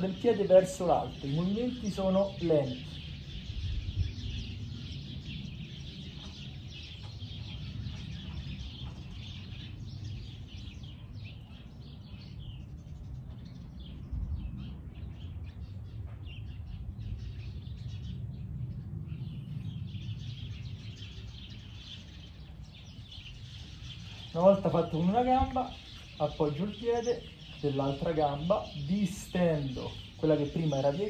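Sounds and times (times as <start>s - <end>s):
low outdoor rumble: 0.0s - 31.0s
small birds chirping: 0.0s - 31.0s.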